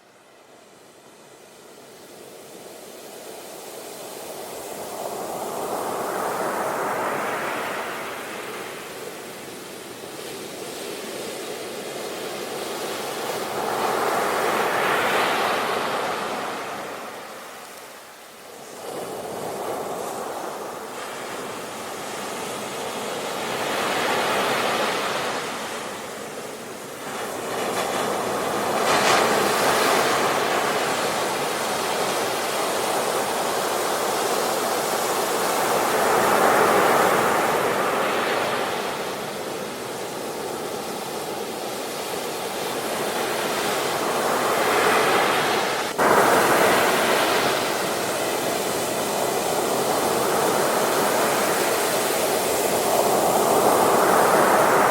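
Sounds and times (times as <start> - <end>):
sea waves breaking on shore: 1.8 - 54.9.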